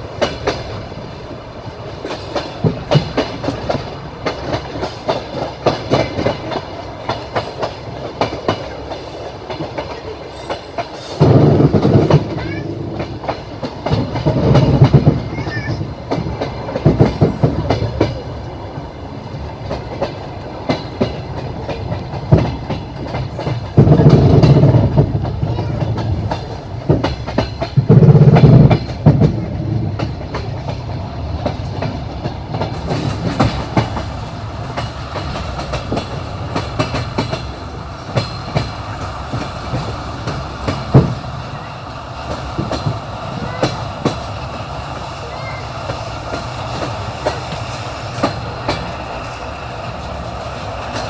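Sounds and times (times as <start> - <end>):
heavy train clatter: 0.0 - 51.0
train rumbling on rails: 0.0 - 51.0
wheels clicking over rail joints: 0.0 - 51.0.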